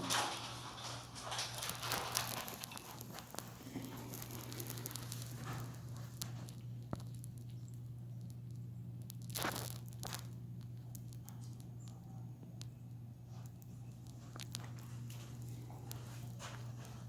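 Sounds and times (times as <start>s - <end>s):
faint clicks and rustles: 0.0s - 17.0s
steady low hum: 0.0s - 17.0s.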